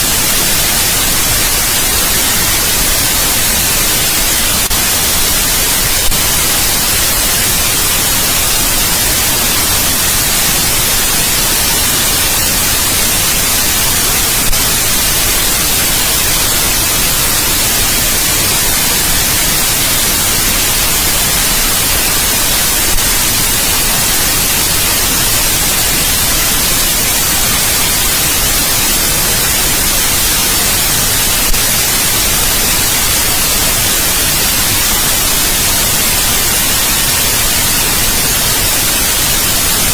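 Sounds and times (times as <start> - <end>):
electronic white noise hiss: 0.0 - 39.9.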